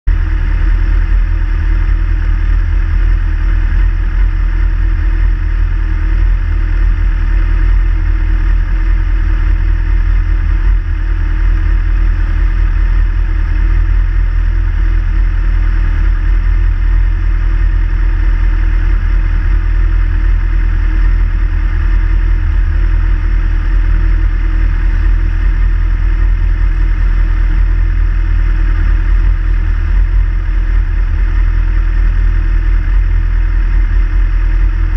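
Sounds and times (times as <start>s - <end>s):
motorcycles idling: 0.2s - 34.9s.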